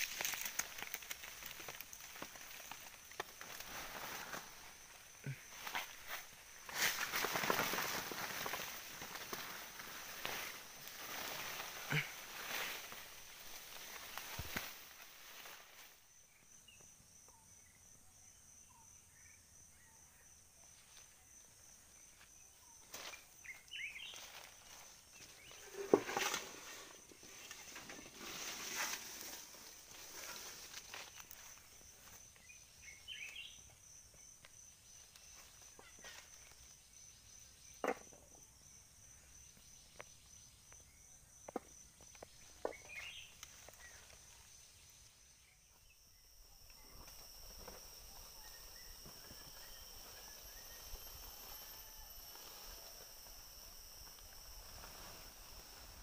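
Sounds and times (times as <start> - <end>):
faint pulsing insect trill: 0.0 - 56.0.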